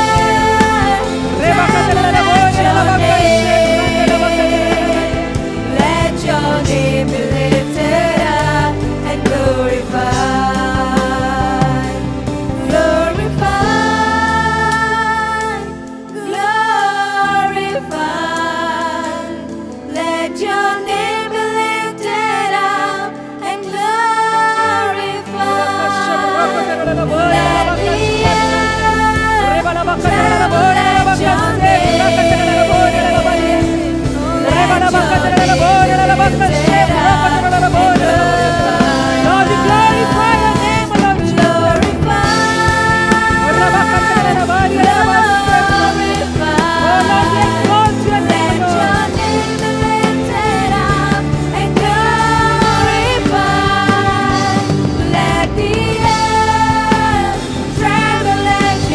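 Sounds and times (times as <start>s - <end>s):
person singing: 0.0s - 18.8s, 23.7s - 58.9s
sustained instrumental backing: 0.0s - 58.9s.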